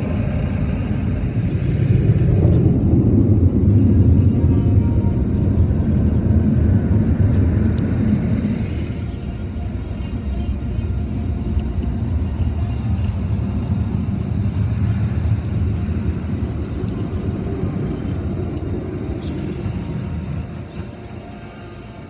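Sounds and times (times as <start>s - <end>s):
muffled car wash rumble: 0.0s - 22.0s.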